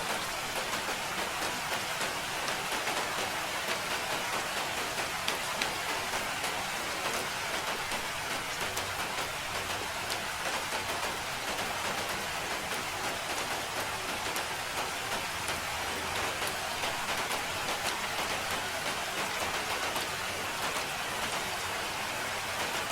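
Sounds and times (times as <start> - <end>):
rain pattering: 0.0 - 22.9.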